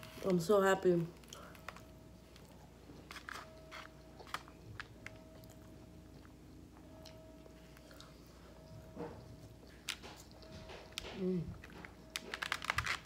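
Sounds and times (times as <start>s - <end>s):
person chewing food: 1.2s - 13.0s.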